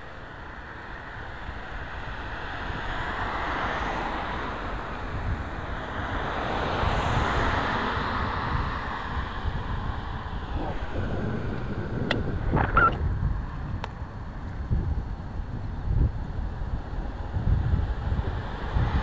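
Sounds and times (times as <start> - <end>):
wind rushing over microphone: 0.0 - 19.0
car tyre noise: 1.2 - 19.0.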